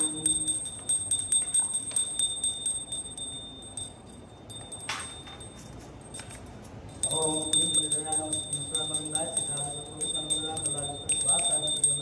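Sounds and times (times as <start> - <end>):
hand bell ringing: 0.0 - 12.0.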